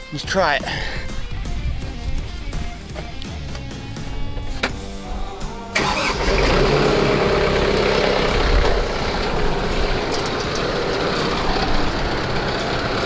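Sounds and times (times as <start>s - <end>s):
tractor engine running: 0.2s - 13.0s.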